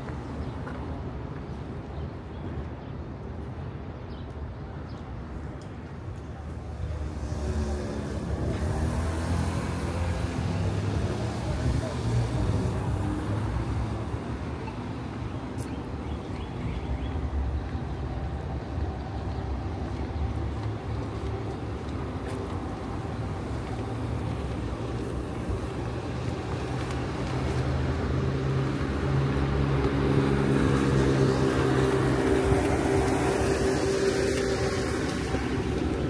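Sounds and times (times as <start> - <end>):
traffic engines rumbling: 0.0 - 36.0
vehicle engine hum: 6.6 - 36.0.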